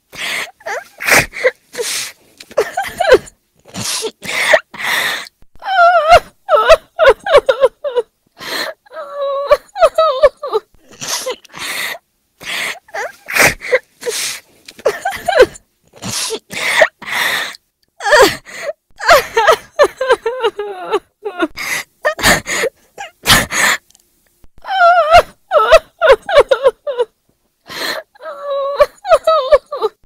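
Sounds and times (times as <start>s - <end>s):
woman sobbing: 0.2s - 23.7s, 24.6s - 27.1s, 27.7s - 30.0s.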